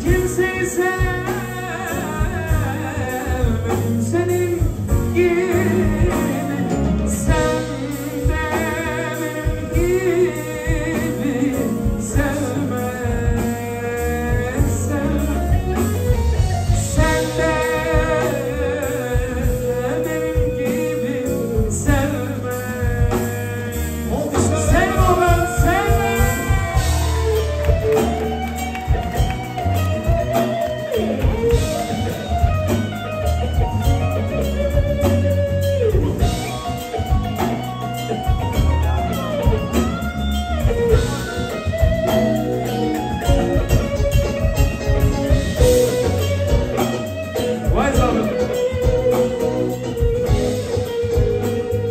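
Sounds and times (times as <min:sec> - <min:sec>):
electric guitar melody: 0:00.0 - 0:51.9
keyboard melody: 0:00.0 - 0:51.9
steady bass beat: 0:00.0 - 0:51.9.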